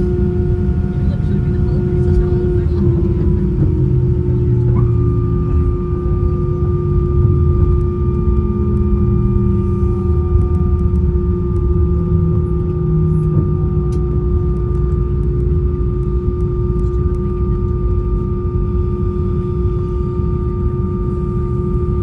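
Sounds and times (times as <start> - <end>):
aircraft cabin engine rumble: 0.0 - 22.0
steady whine: 0.0 - 22.0.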